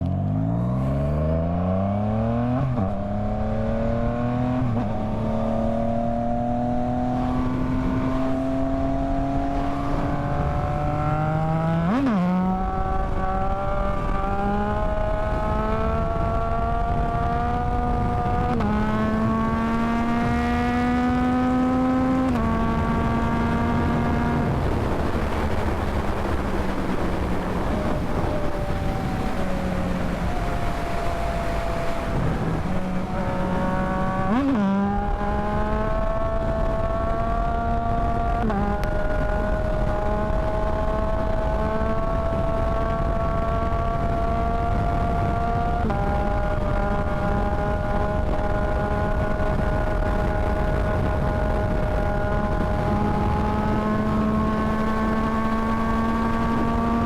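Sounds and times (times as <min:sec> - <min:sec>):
motorcycle engine accelerating: 0:00.0 - 0:57.0
wind rush: 0:00.0 - 0:57.0.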